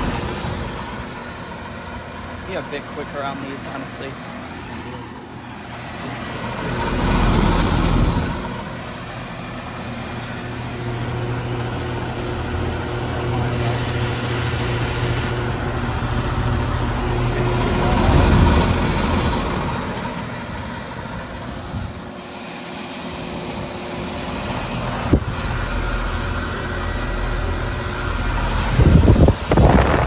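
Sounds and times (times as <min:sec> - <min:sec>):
compressor hum: 0:00.0 - 0:30.0
condenser fans rushing: 0:00.0 - 0:30.0.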